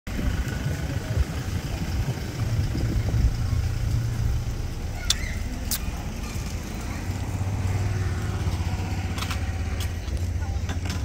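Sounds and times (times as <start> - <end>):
vehicle engine rumbling: 0.1 - 11.0.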